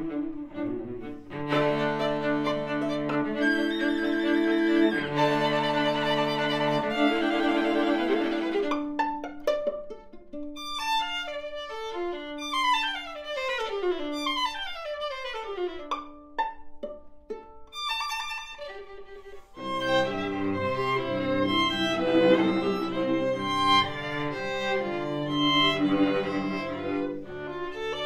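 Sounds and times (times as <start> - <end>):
string quartet playing: 0.0 - 28.0.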